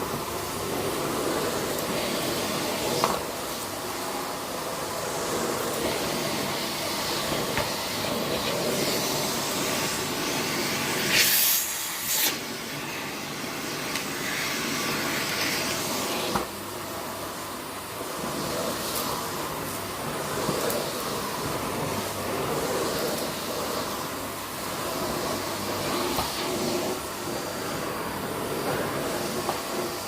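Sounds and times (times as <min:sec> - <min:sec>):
vacuum cleaner suction hiss: 0:00.0 - 0:30.0.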